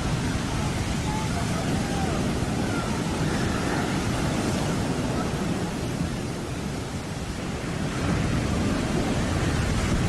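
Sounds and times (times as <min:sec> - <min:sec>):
sea surf washing: 0:00.0 - 0:10.0
wind buffeting microphone: 0:00.0 - 0:10.0.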